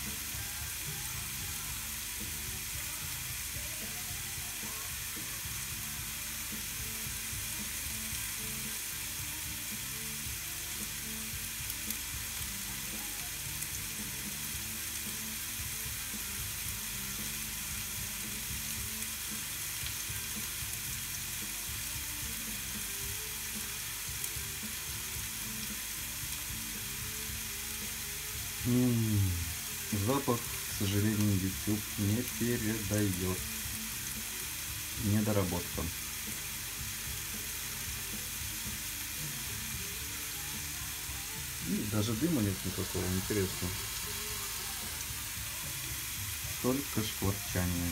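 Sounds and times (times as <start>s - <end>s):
steak sizzling on grill: 0.0s - 47.9s.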